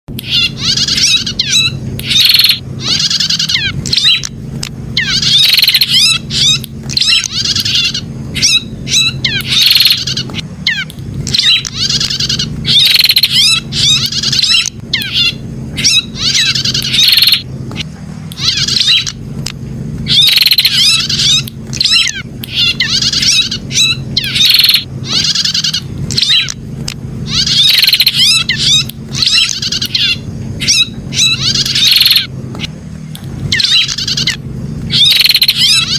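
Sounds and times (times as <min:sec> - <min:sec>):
bird twittering song: 0:00.1 - 0:35.9
steady low hum: 0:00.1 - 0:35.9.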